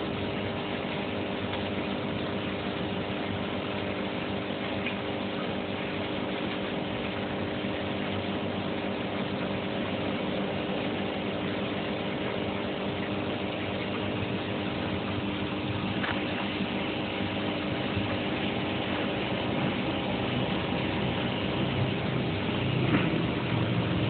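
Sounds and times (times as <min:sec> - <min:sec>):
filter pump humming: 0:00.0 - 0:24.0
water washing: 0:00.0 - 0:24.0.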